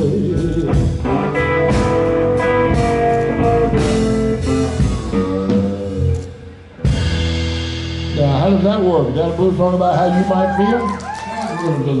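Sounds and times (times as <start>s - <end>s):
live blues band shuffle: 0.0s - 11.5s.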